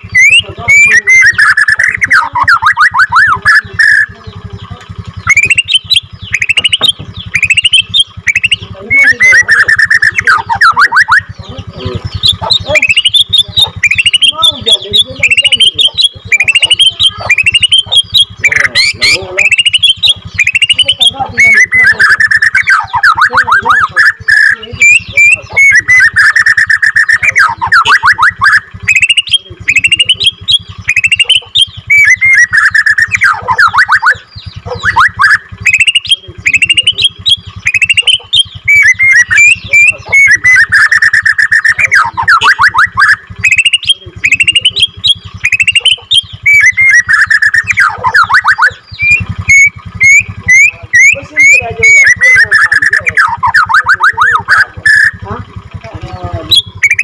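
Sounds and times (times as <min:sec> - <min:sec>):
songbird singing trills and whistles: 0:00.0 - 0:57.0.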